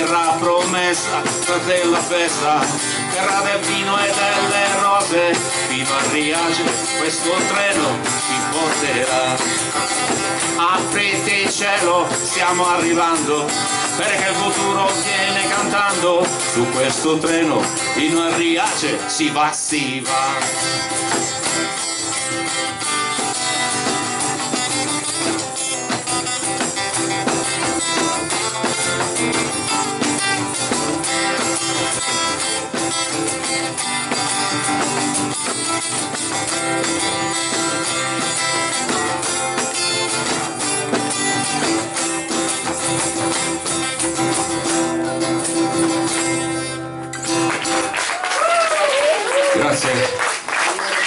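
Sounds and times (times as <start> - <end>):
acoustic guitars strumming: 0.0 - 51.0.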